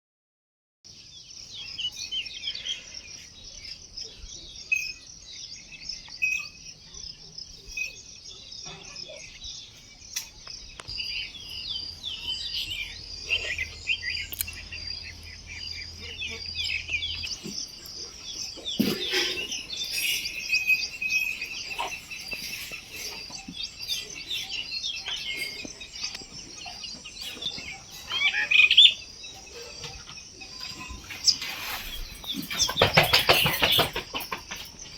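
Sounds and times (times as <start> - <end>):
birds chirping in chorus: 0.9 - 34.9
high insect trill: 1.3 - 34.9.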